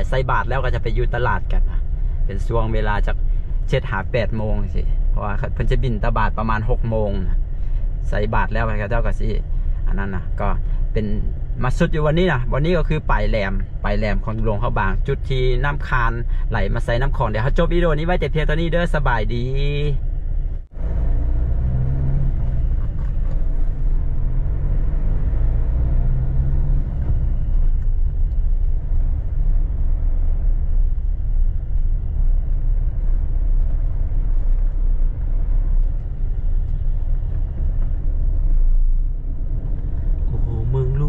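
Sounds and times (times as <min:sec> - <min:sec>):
vehicle driving on paved street: 0:00.0 - 0:41.0.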